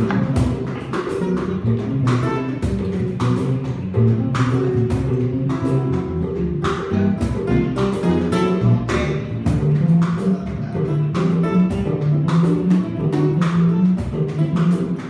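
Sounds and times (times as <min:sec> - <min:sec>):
acoustic guitar: 0:00.0 - 0:15.0
cajon hits: 0:00.0 - 0:15.0
upright bass: 0:00.0 - 0:15.0.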